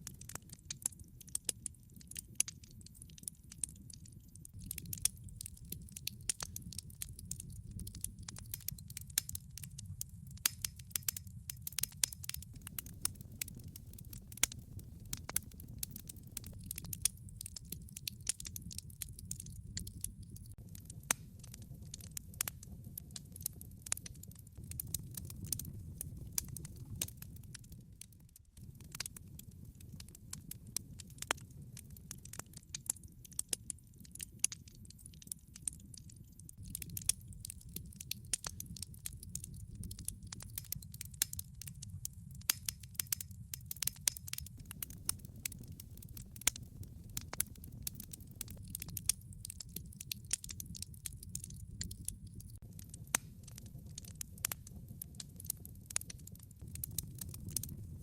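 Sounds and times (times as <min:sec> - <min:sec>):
wood fire crackling: 0:00.0 - 0:58.0
flames rumbling: 0:00.1 - 0:00.6, 0:01.2 - 0:34.5, 0:35.8 - 0:58.0.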